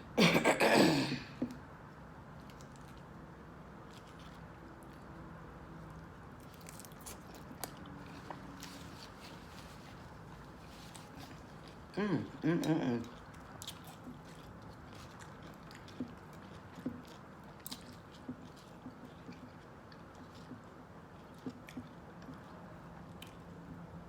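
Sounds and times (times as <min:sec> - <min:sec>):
chewing with wet mouth sounds: 0:02.3 - 0:24.0.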